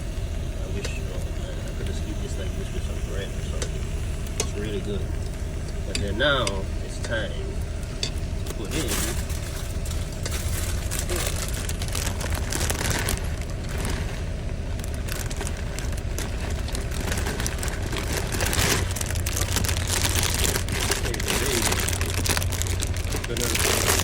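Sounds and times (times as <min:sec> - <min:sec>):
truck engine idling: 0:00.0 - 0:24.0
crackling and crinkling: 0:00.1 - 0:24.0.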